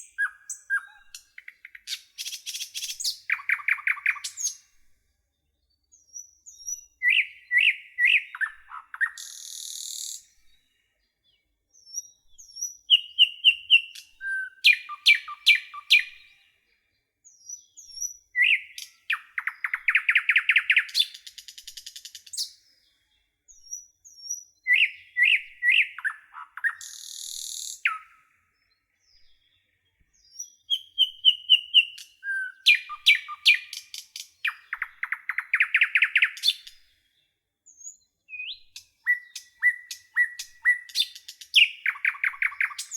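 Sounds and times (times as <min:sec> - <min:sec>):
songbird chirps and trills: 0:00.0 - 0:42.9.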